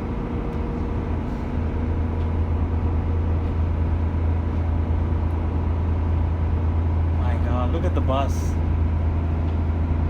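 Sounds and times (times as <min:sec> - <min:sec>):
boat engine drone: 0:00.0 - 0:10.0.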